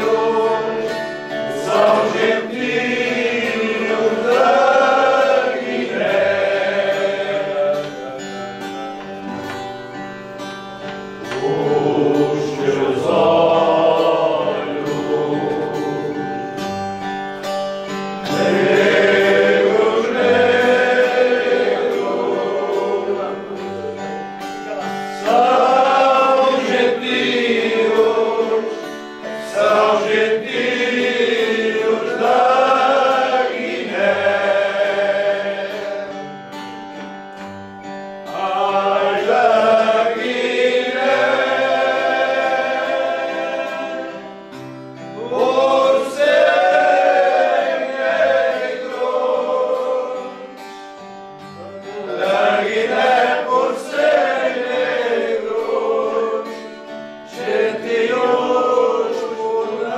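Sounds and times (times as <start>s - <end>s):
group of men singing: 0.0s - 9.4s, 10.9s - 17.0s, 18.2s - 36.8s, 38.2s - 50.8s, 51.7s - 59.9s
plucked guitar: 0.0s - 59.9s.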